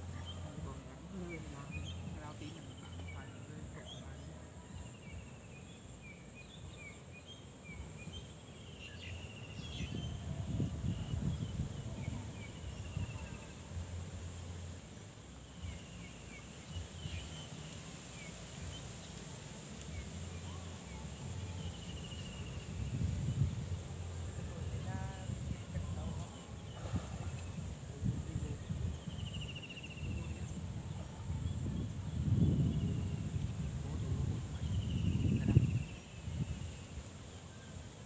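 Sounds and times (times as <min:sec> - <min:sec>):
high insect drone: 0:00.0 - 0:38.0.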